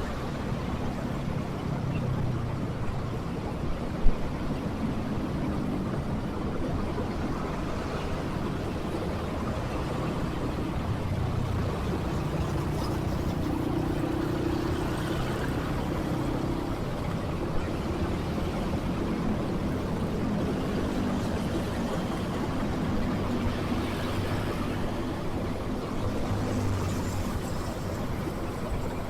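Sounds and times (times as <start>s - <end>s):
road and traffic noise: 0.0s - 29.0s.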